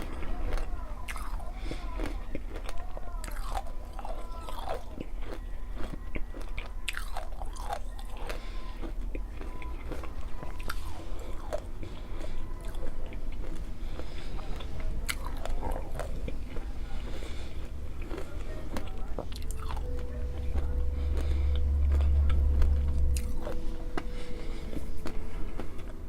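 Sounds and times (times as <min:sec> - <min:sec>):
crunchy candy chewing: 0:00.0 - 0:26.0.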